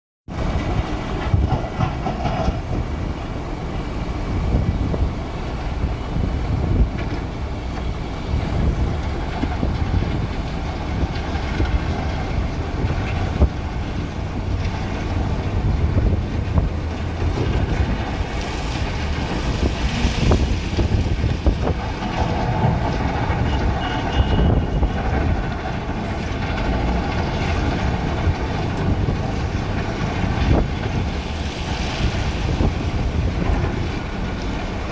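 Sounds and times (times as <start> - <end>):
diesel engine rumbling: 0.3 - 34.9.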